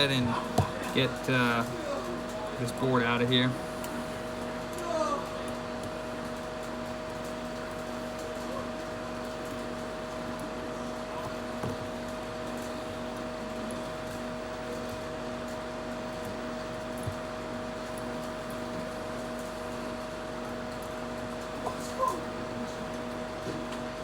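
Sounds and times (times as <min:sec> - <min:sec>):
small fan humming: 0:00.0 - 0:24.0.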